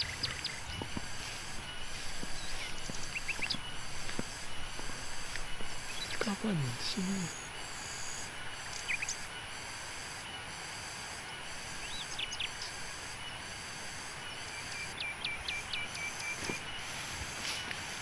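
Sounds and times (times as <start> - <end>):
bird chirps: 0.0 - 9.5, 11.3 - 13.4, 14.2 - 17.6
insect drone pulsing: 0.0 - 18.0.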